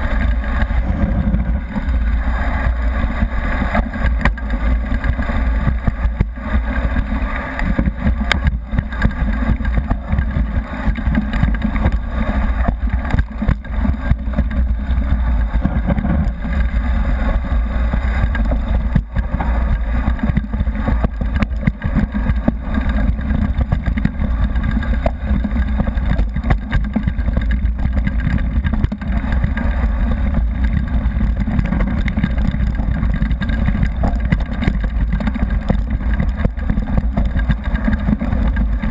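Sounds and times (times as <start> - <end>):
bike rattling and clicking: 0.0 - 38.9
wind on microphone: 0.0 - 38.9.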